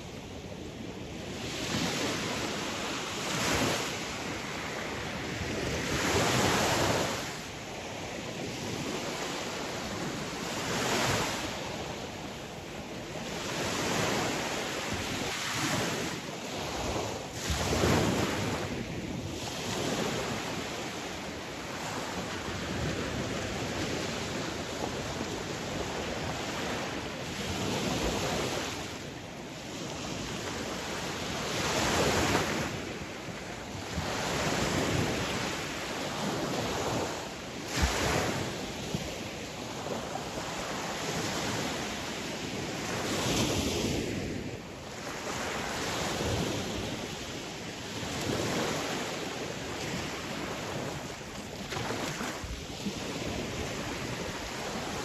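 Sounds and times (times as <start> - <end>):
sea waves breaking on shore: 0.0 - 55.0
wind on microphone: 0.0 - 55.0.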